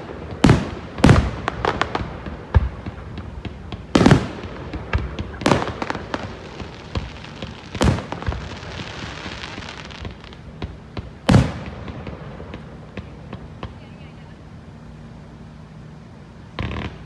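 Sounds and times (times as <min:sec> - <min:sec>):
aerial firework booms: 0:00.0 - 0:13.8
small firework pops: 0:00.0 - 0:13.9, 0:16.5 - 0:17.0.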